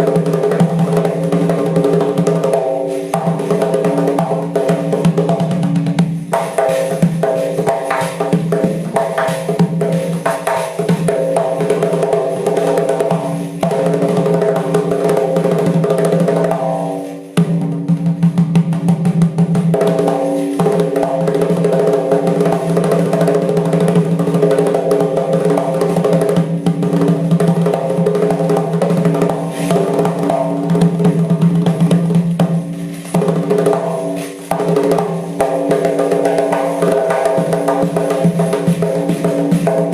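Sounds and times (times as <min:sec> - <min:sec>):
frame drum strokes and rolls: 0:00.0 - 0:39.9.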